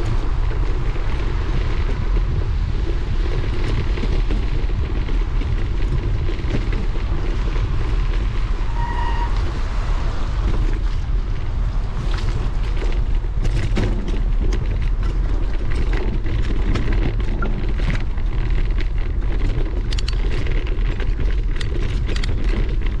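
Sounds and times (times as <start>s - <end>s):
sharp clicks and rattles: 0.0s - 23.0s
wind buffeting microphone: 0.0s - 23.0s.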